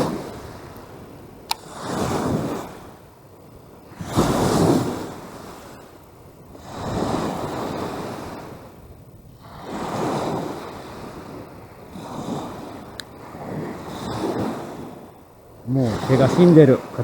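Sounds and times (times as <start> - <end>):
lake waves breaking on shore: 0.0 - 17.0
wind gusting on microphone: 0.0 - 17.0.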